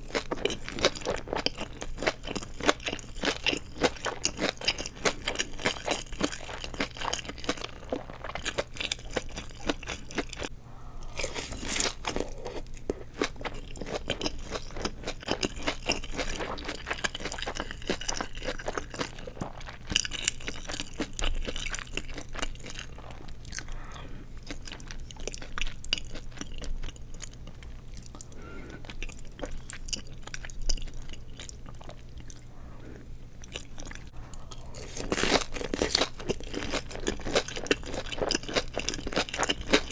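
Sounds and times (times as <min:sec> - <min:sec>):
crisp crunching of chewing: 0:00.0 - 0:39.9
steady low hum: 0:00.0 - 0:39.9.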